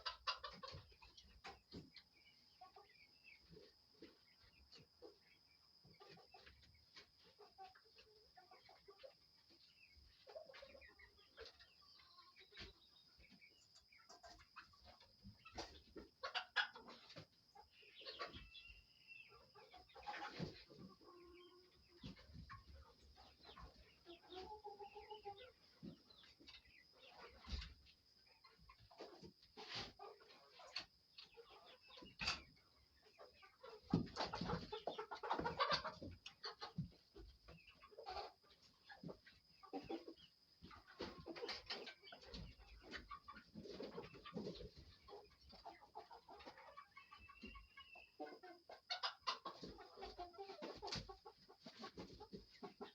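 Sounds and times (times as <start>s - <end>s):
chicken short calls and clicks: 0.0s - 52.9s
chickens clucking: 0.0s - 52.9s.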